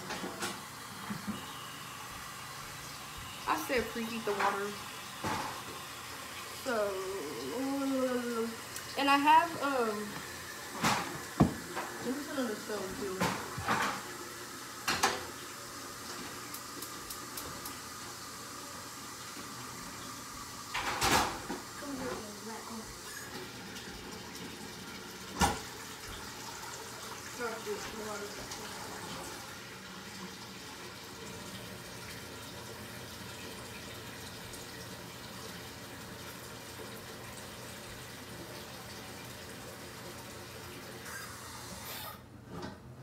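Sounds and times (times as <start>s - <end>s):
tap water running into pot: 0.0s - 41.9s.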